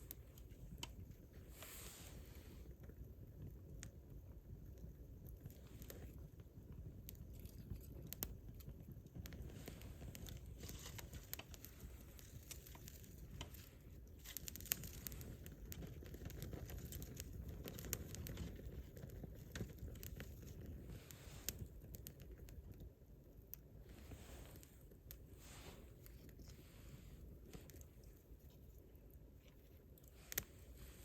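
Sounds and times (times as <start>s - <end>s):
low steady rumble: 0.0s - 31.0s
wood fire crackling: 0.0s - 31.0s.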